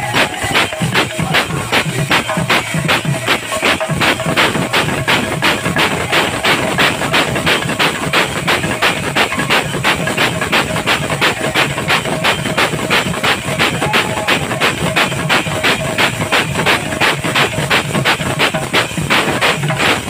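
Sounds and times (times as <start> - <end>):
barrel drum beat: 0.0 - 20.0
brass hand cymbals striking: 0.0 - 20.0.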